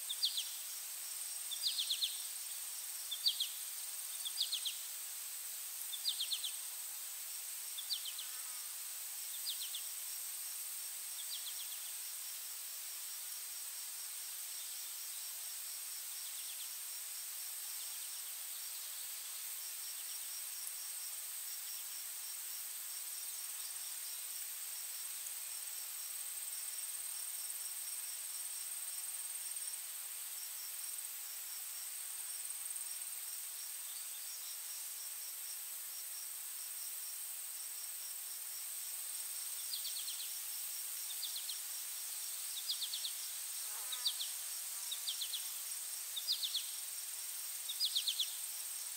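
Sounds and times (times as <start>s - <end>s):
insects chirping: 0.0s - 48.9s.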